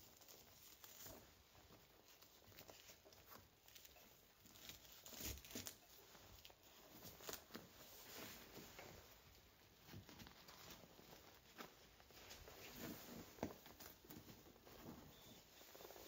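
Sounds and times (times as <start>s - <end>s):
fabric rustling and rubbing: 0.0s - 16.0s.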